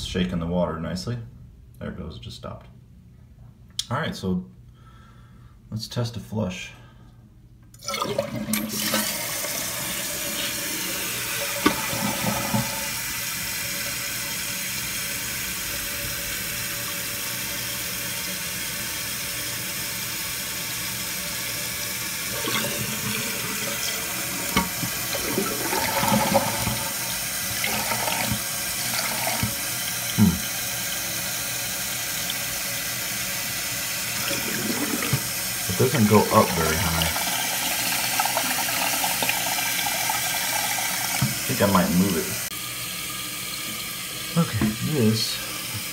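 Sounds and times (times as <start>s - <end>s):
toilet flushing and refilling: 7.8s - 45.9s.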